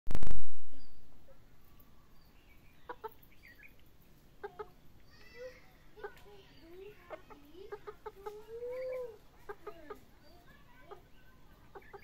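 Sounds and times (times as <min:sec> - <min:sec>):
chickens clucking: 0:01.3 - 0:12.0.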